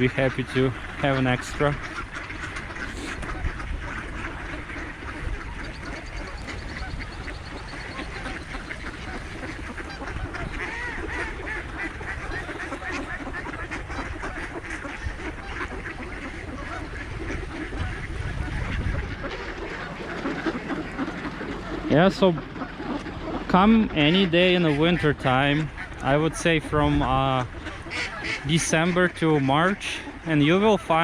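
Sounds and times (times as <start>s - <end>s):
ducks quacking: 0.0s - 31.0s
geese honking: 0.0s - 31.0s.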